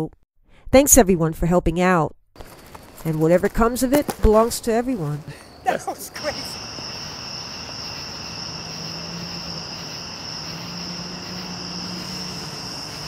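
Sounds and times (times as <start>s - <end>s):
crickets chirping: 2.4s - 13.0s.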